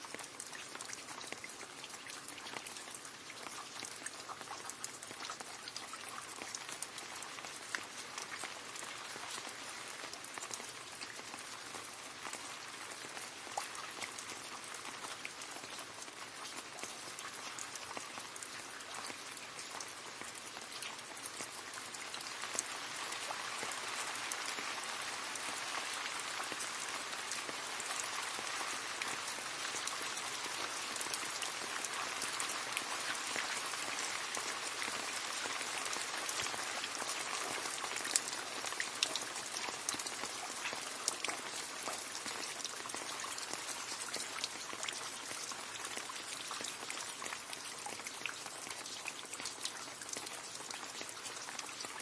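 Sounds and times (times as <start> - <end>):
rain splashing into a puddle: 0.0 - 52.0.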